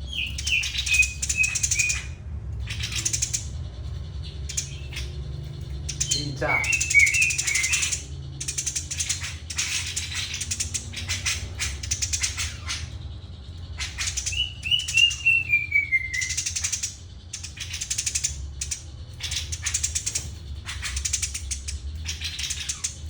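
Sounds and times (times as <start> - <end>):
sparrow rattling chirps: 0.0 - 23.0.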